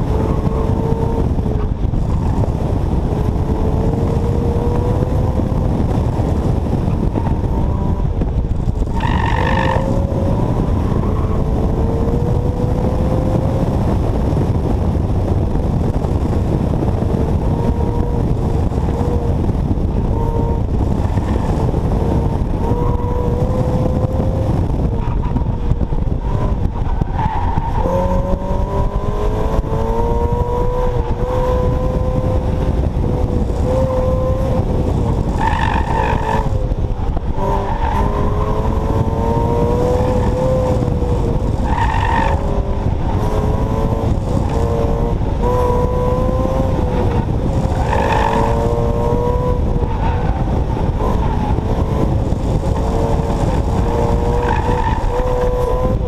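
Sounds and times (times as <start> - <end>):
car engine revving: 0.0 - 56.0
wind rushing over microphone: 0.0 - 56.0.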